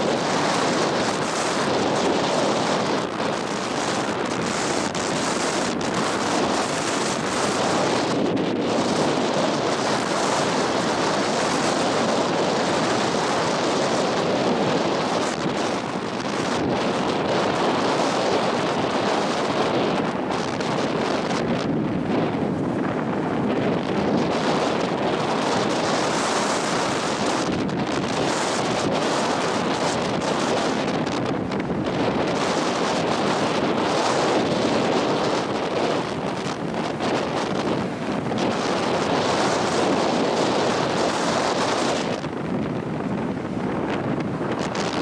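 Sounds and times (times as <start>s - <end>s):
breaking surf: 0.0s - 45.0s
strong wind buffeting microphone: 0.0s - 45.0s.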